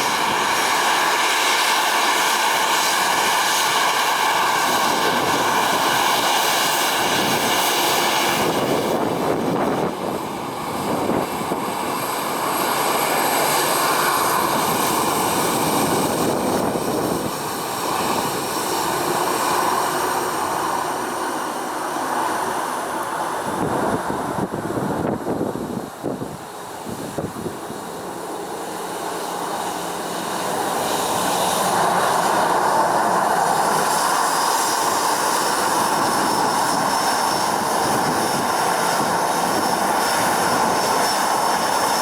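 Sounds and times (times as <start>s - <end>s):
jet engines whining: 0.0s - 42.0s.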